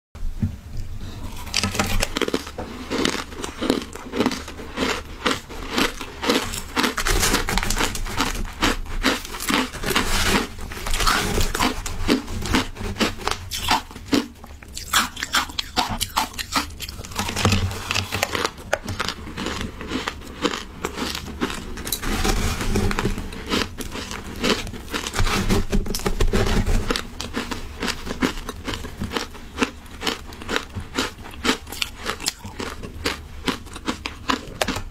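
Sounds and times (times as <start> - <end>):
crunching and chewing shaved ice: 1.1 - 34.9.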